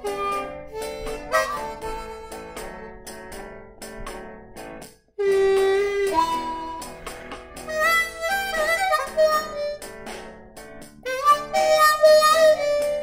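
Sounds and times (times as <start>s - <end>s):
blues harmonica: 0.0s - 3.4s, 5.2s - 13.0s.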